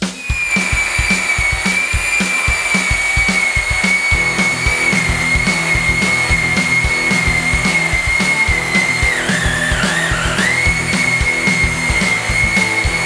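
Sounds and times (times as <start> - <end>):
background music with drum beat: 0.0 - 13.0
power tool motors whining: 0.0 - 13.0.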